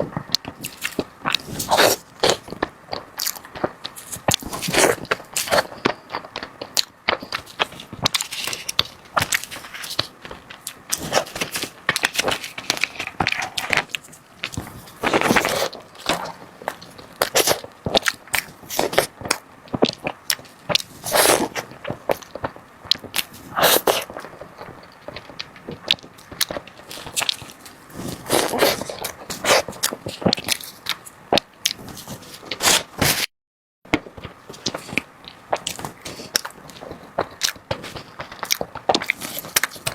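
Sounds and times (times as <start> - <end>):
crunchy chewing of food: 0.0 - 33.3, 33.9 - 39.9.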